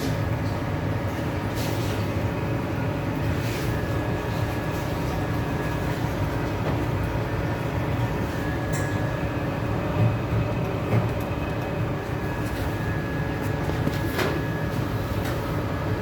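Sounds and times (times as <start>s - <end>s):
oven fan motor rumbling: 0.0s - 16.0s.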